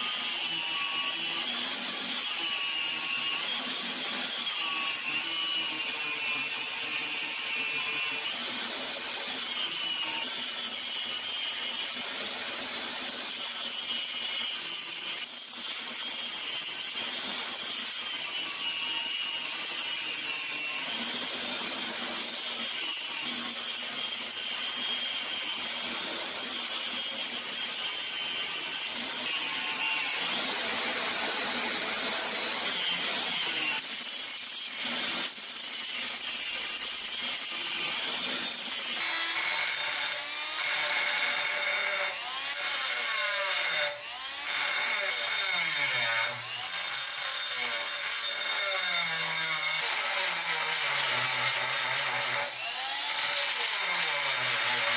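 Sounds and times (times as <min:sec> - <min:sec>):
belt grinder grinding steel: 0:00.0 - 0:12.0, 0:12.6 - 0:54.9
rotary grinder whining: 0:00.0 - 0:54.9.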